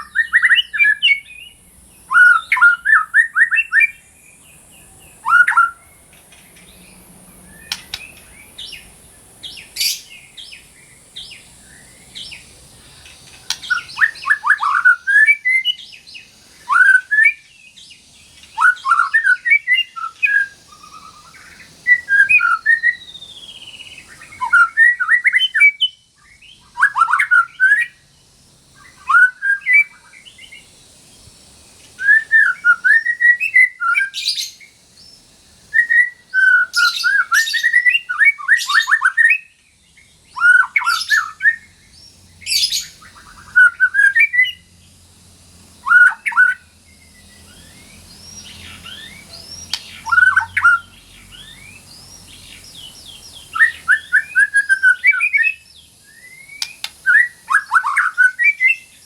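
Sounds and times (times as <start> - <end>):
bird singing whistled notes: 0.0 - 45.0, 45.8 - 59.0.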